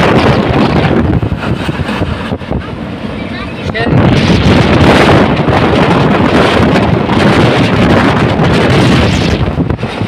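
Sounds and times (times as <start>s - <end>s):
train rumbling on track: 0.0s - 10.0s
wind rushing over microphone: 0.0s - 10.0s.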